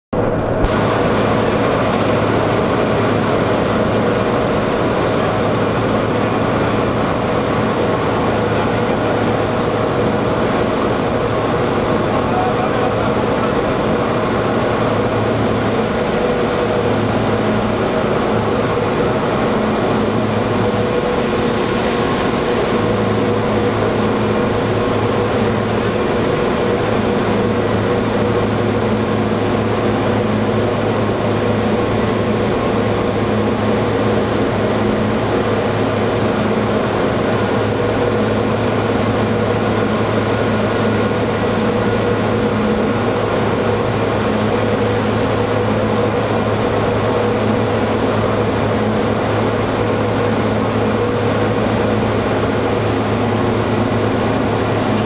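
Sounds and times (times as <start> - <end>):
cable car machinery droning: 0.2 - 55.0.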